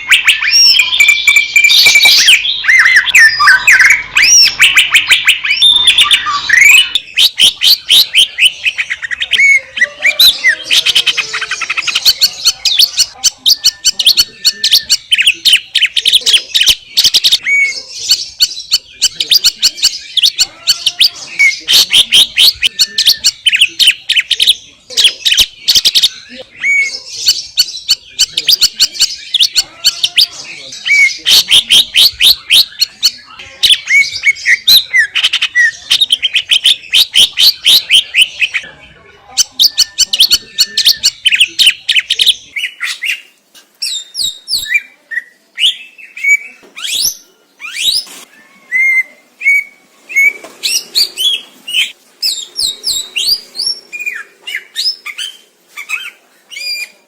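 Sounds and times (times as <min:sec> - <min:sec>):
bird singing chirps and trills: 0:00.0 - 0:57.0.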